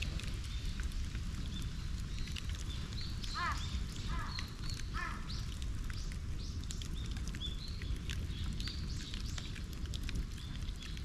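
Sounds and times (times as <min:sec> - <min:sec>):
bonfire crackling: 0:00.0 - 0:11.0
small birds chirping: 0:00.2 - 0:11.0.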